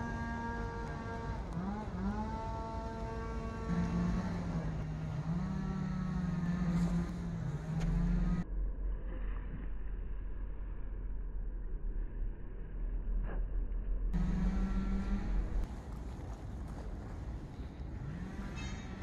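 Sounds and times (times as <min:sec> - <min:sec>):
vehicle engine accelerating: 0:00.0 - 0:15.8, 0:17.6 - 0:19.0
low rumble: 0:00.0 - 0:19.0.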